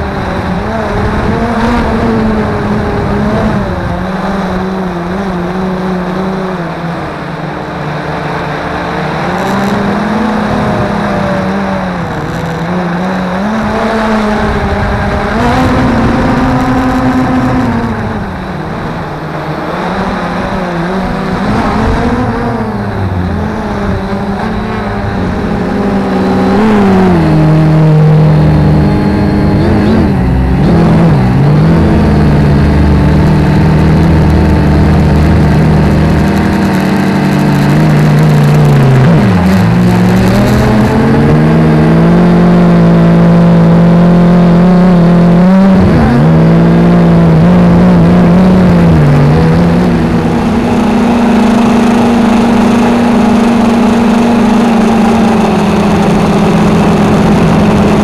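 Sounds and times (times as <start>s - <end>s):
quadcopter propellers buzzing: 0.0s - 58.0s.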